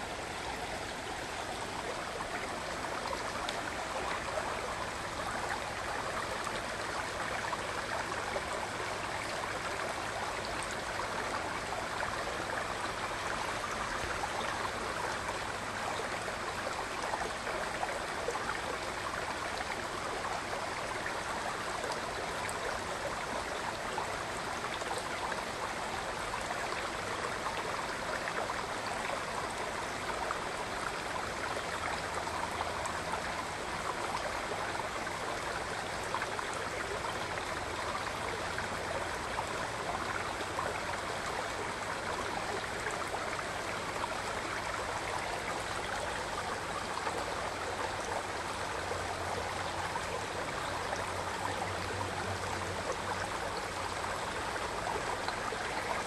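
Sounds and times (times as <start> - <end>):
creek babbling over stones: 0.0 - 56.0.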